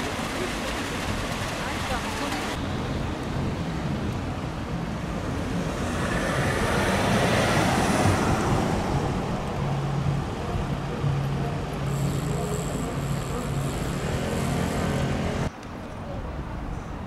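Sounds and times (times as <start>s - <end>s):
low engine hum: 0.0s - 15.5s
passing vehicles rushing: 0.0s - 15.5s.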